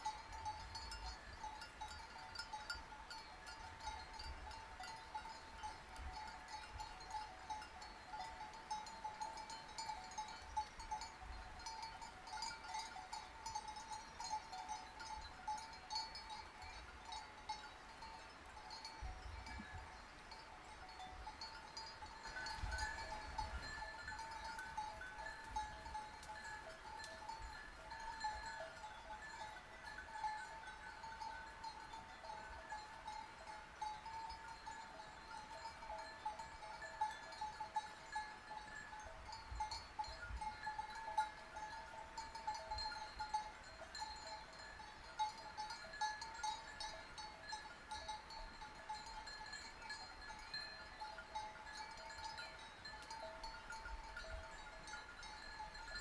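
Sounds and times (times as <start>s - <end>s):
sheep bells clanking: 0.0s - 56.0s.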